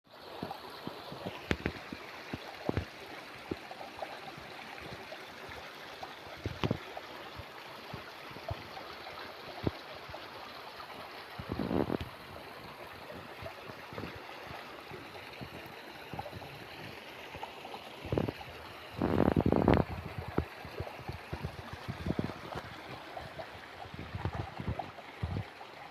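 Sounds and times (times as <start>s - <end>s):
stream flowing water: 0.1s - 25.9s.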